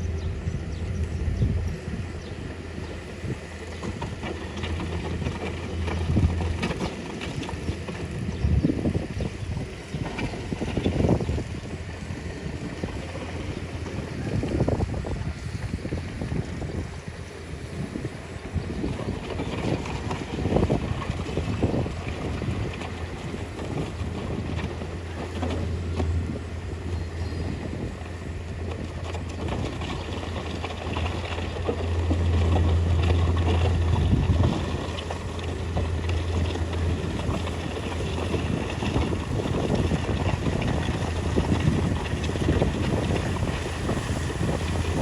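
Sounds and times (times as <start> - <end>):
bulldozer diesel engine droning: 0.0 - 45.0.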